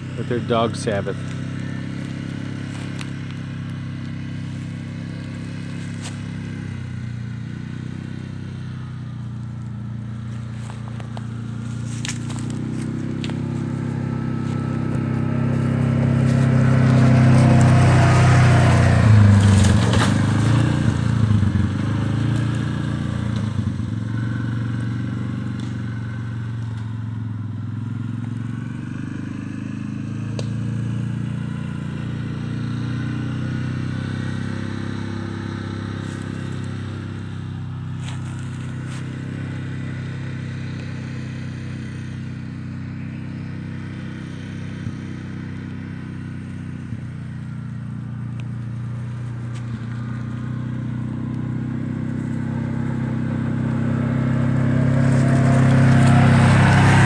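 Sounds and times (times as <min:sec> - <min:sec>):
utility vehicle engine driving by: 0:00.0 - 0:57.0.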